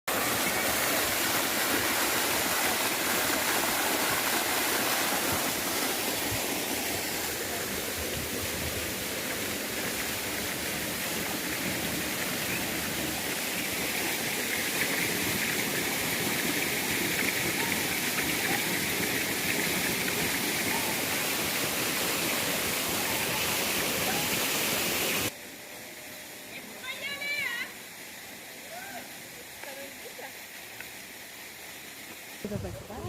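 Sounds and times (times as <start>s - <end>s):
running water rushing: 0.1s - 33.0s.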